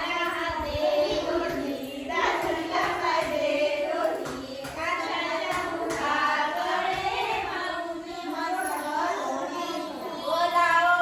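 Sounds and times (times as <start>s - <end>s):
women and girls singing in chorus: 0.0s - 11.0s.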